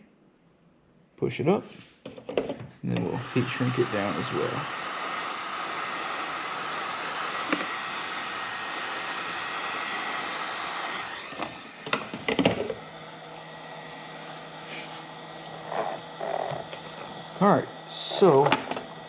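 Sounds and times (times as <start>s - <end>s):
heat gun blowing: 3.0s - 19.0s.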